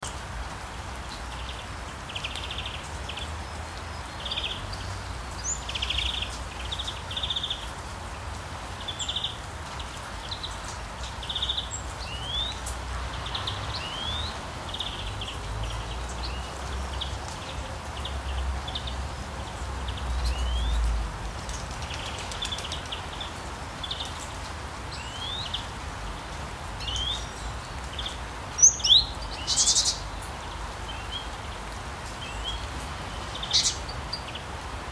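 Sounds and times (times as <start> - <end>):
rain hissing: 0.0 - 34.9
forest birds calling: 1.1 - 34.9.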